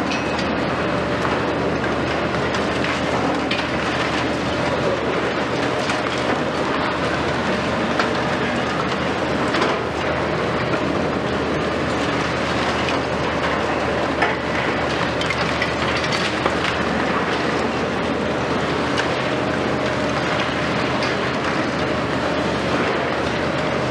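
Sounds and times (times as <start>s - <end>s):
excavator diesel engines running: 0.0s - 23.9s.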